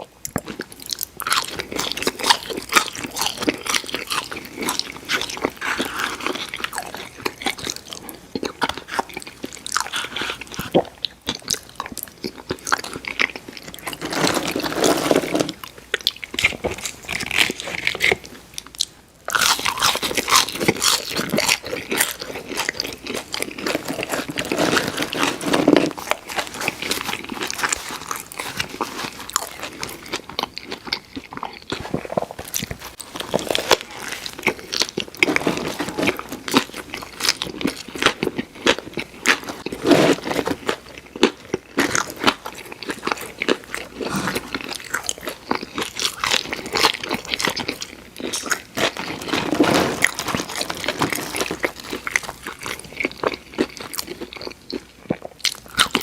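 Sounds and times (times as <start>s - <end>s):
crunching and chewing food: 0.0s - 56.0s.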